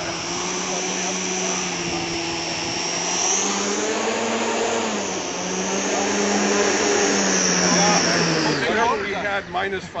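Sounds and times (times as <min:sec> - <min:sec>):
electric motors and propellers whining: 0:00.0 - 0:10.0.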